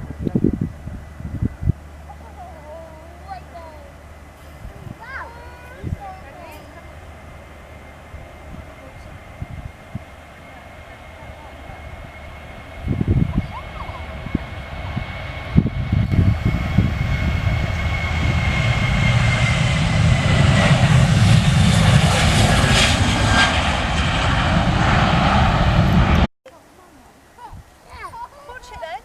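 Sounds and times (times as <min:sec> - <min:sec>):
jet engines rumbling and whining: 0:00.0 - 0:26.3.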